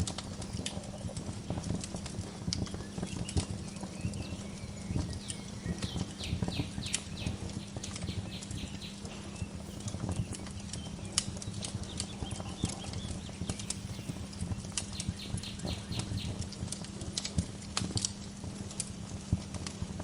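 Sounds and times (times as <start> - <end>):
bird chirping: 0.0 - 16.6
low steady rumble: 0.0 - 19.6
wood fire crackling and popping: 0.0 - 20.0.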